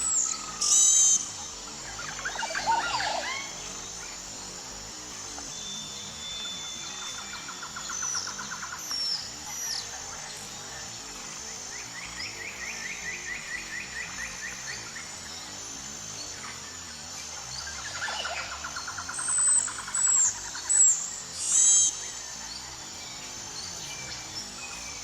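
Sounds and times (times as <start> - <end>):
birds trilling: 0.0 - 15.4, 17.4 - 22.0
steady high hiss: 0.0 - 25.0.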